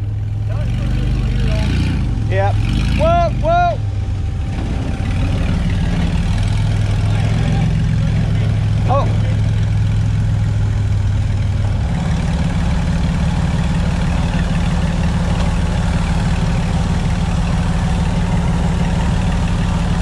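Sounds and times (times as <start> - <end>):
engine revving up: 0.0 - 3.8, 4.4 - 20.0.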